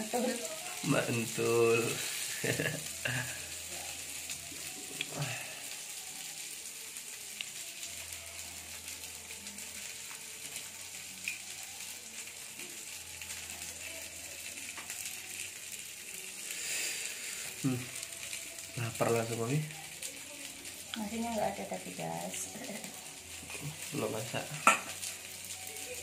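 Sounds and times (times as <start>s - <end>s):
chicken sizzling on grill plate: 0.0s - 26.0s.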